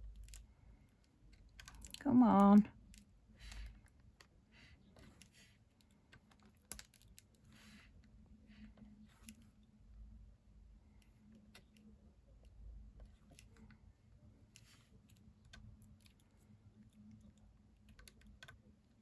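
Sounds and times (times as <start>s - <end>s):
light clicks and taps of tools: 0.0s - 2.0s, 2.8s - 9.8s, 10.9s - 13.8s, 14.4s - 19.0s
low steady hum: 0.0s - 19.0s.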